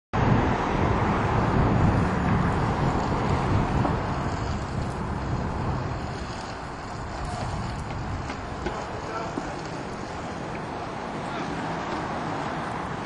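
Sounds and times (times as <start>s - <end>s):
outdoor rumble and hiss: 0.2s - 13.0s.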